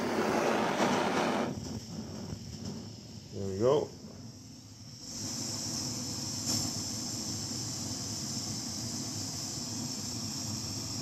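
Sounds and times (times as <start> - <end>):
hand torch flame hissing: 0.0 - 11.0.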